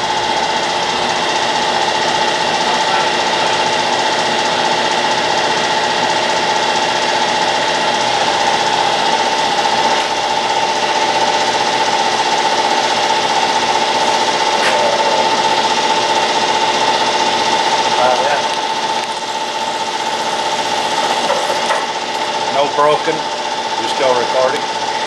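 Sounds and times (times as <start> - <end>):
grinder machine whining and rattling: 0.0 - 25.0.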